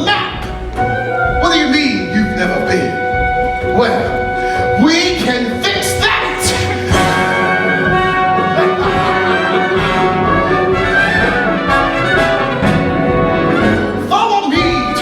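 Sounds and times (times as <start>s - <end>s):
orchestral show-tune music: 0.0s - 15.0s.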